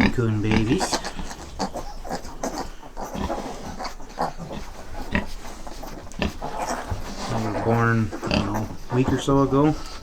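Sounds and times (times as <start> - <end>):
young animals grunting and squeaking: 0.0 - 10.0.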